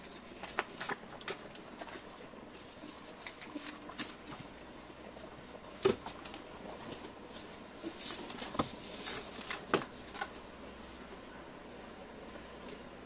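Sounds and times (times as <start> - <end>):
paper rustling and crinkling: 0.0 - 10.5.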